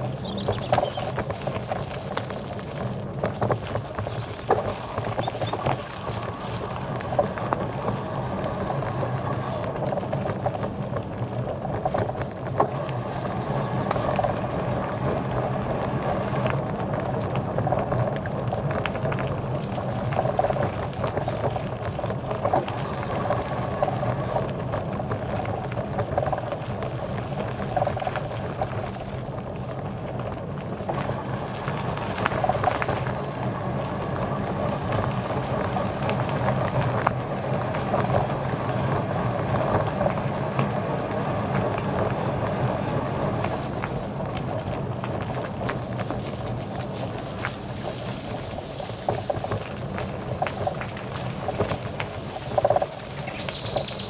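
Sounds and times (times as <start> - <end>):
bicycle rolling noise: 0.0 - 54.0.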